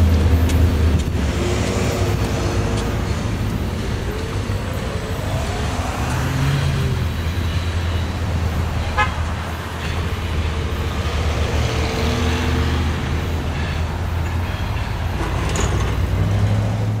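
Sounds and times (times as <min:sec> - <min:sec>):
diesel locomotive engines rumbling: 0:00.0 - 0:17.0
train wheels on jointed track: 0:00.0 - 0:17.0.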